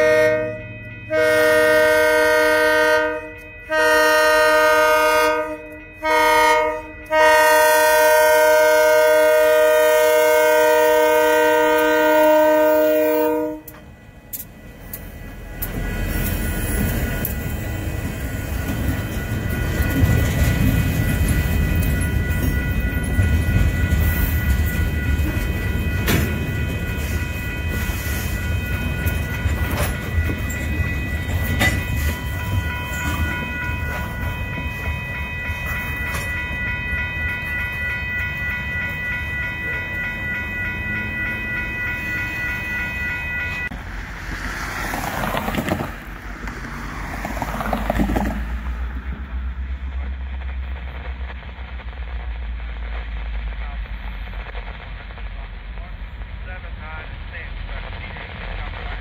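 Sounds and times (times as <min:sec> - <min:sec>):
crossing warning bell ringing: 0:00.0 - 0:51.0
freight train wheels rumbling on rail: 0:00.0 - 0:59.0
train clanks: 0:00.0 - 0:59.0.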